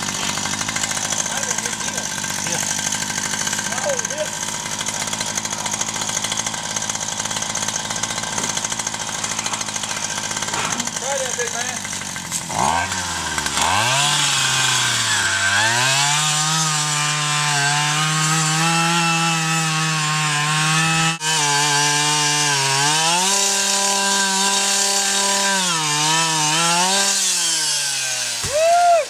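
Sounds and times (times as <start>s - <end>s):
two-stroke auger engine revving: 0.0s - 28.5s.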